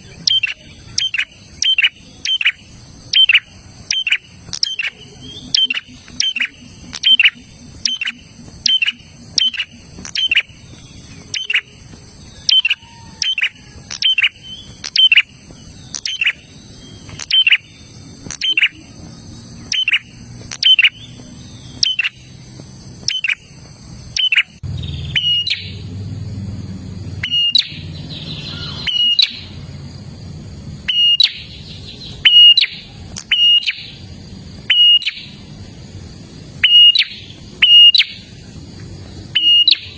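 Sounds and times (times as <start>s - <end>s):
bird chirping: 0.0s - 39.9s
low hum: 0.0s - 39.9s.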